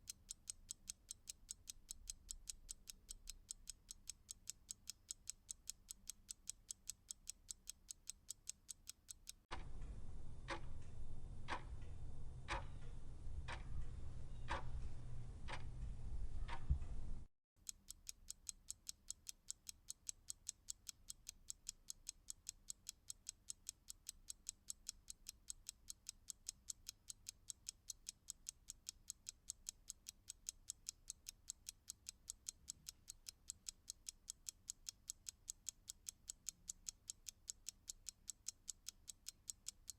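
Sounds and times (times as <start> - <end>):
clock ticking: 0.0 - 14.9, 15.5 - 15.7, 16.4 - 16.8, 17.6 - 39.9.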